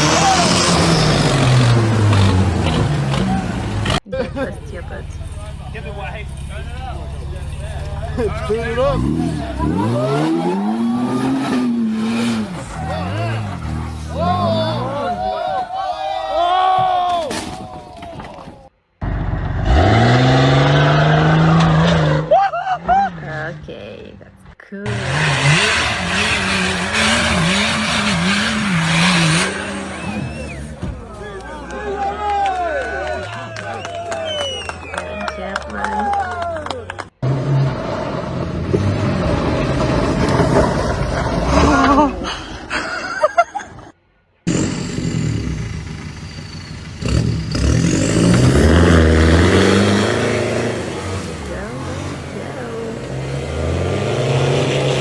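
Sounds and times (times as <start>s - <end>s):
off-road vehicle engine revving: 0.0s - 15.4s, 19.0s - 24.0s, 24.8s - 43.0s, 44.4s - 55.0s.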